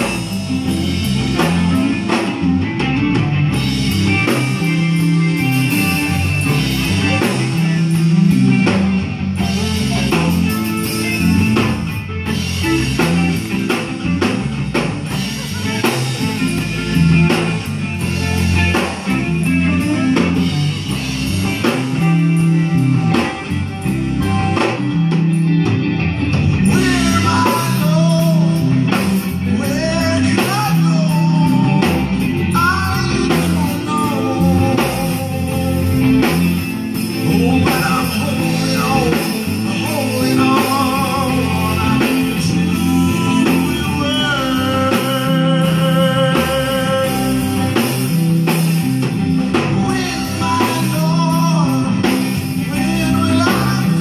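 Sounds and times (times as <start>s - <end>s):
man singing: 0.0s - 3.0s, 4.2s - 20.7s, 26.6s - 54.0s
rock band playing: 0.0s - 54.0s.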